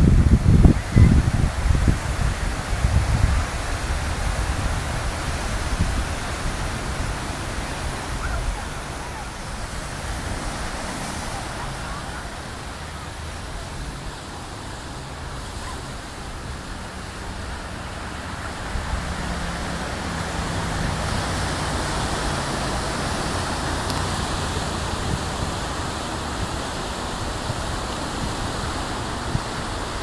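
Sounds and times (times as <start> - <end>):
waves breaking on shore: 0.0 - 30.0.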